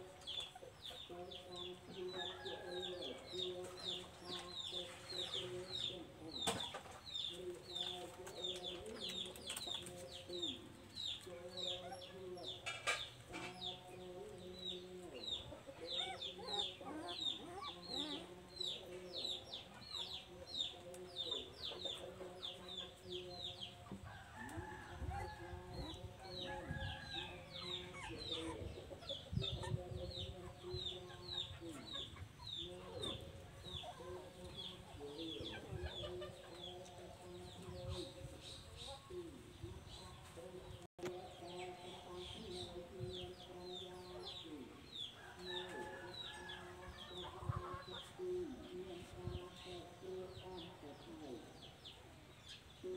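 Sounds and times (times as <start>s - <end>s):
chickens clucking: 0.0s - 52.9s
chicks peeping: 0.0s - 52.9s.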